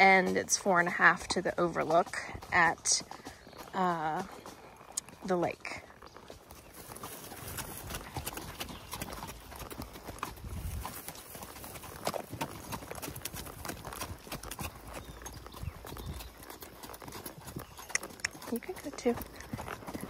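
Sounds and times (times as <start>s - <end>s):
horses hooves clip-clopping: 0.0s - 20.0s.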